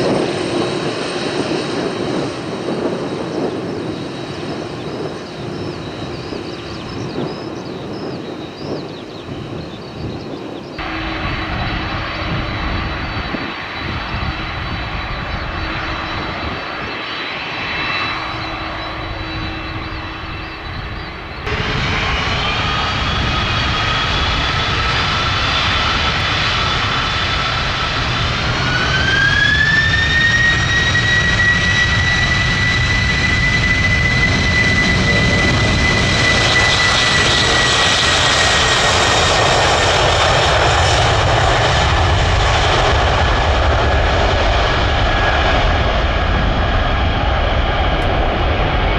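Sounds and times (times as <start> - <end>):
jet engines running: 0.0 - 48.9
rising engine whine: 0.0 - 48.9.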